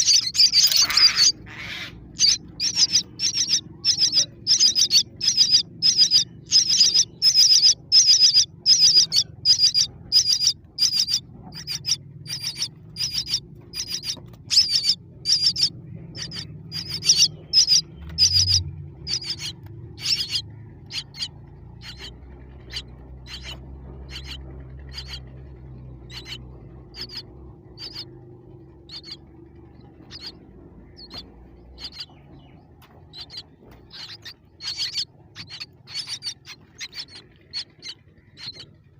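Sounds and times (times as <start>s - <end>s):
baby birds chirping: 0.0s - 38.8s.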